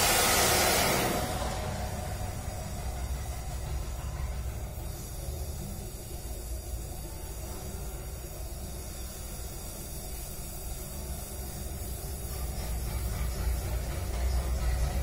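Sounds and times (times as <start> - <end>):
gas welding torch hissing: 0.0 - 15.0.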